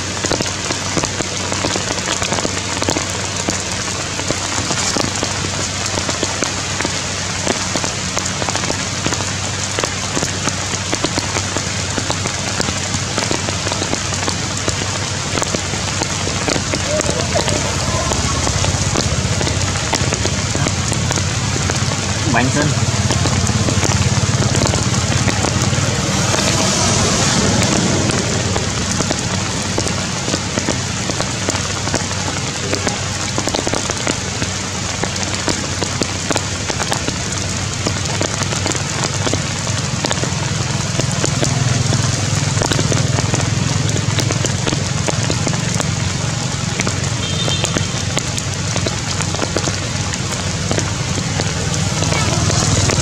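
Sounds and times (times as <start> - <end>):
rain pattering on stone and leaves: 0.0 - 53.0.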